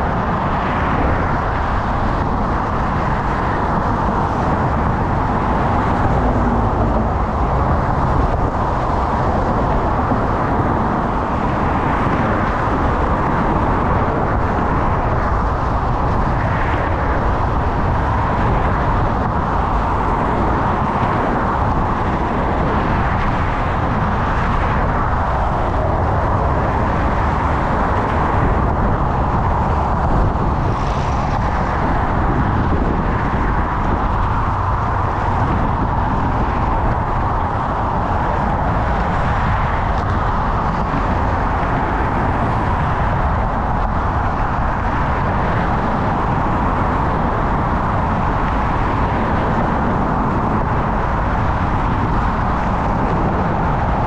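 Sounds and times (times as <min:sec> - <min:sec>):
motor traffic: 0:00.0 - 0:54.0
road noise: 0:00.0 - 0:54.0
wind roar: 0:00.0 - 0:54.0.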